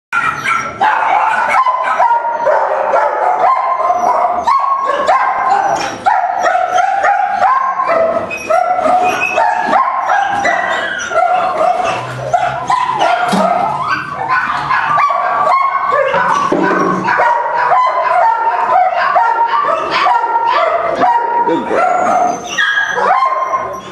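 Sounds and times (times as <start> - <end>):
dogs barking and yipping: 0.2 - 23.9.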